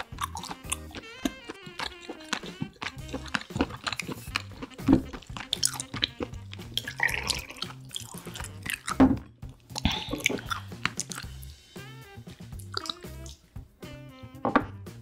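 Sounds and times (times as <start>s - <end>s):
squishy bites: 0.0s - 11.5s, 12.4s - 13.4s
wet chewing and lip-smacking: 0.0s - 11.5s, 12.2s - 13.4s
quiet background music: 0.0s - 15.0s.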